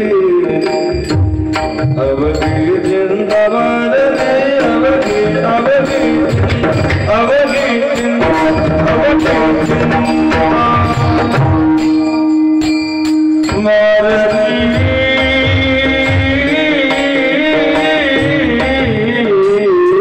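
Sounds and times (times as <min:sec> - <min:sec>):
drum beats: 0:00.0 - 0:20.0
men singing devotional melody: 0:00.0 - 0:20.0.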